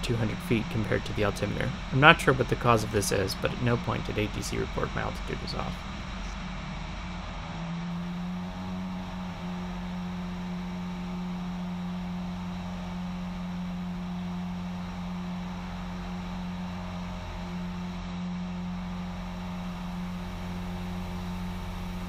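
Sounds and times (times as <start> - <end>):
aircraft engine droning: 0.0 - 22.0
constant rush: 0.0 - 22.0.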